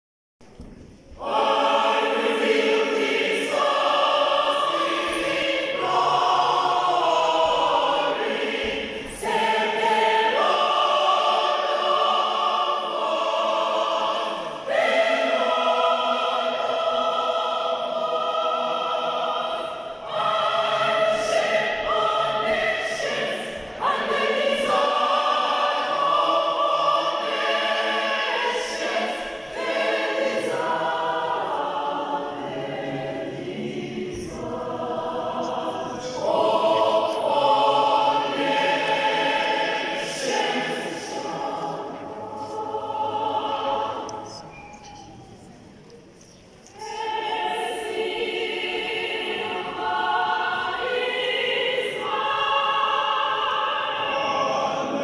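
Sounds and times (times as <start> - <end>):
mixed choir singing: 1.1 - 45.5, 46.4 - 55.0.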